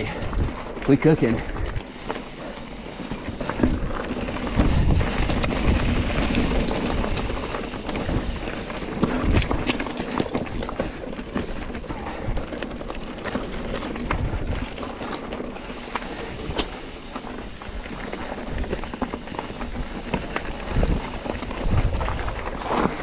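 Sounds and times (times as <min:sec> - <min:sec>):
bike clicks and rattles: 0:00.0 - 0:23.0
bike tyres on dirt and rock: 0:00.0 - 0:23.0.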